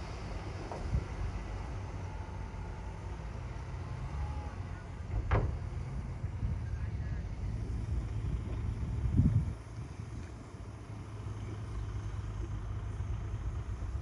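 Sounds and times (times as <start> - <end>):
heavy diesel machinery rumbling: 0.0 - 14.0.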